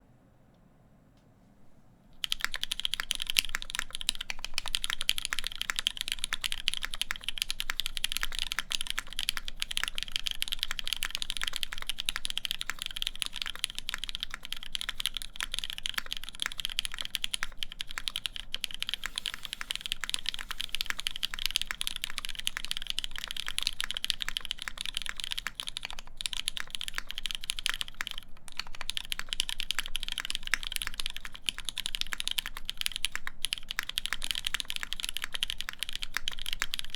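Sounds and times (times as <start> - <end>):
fast typing on mechanical keyboard: 2.2 - 36.9.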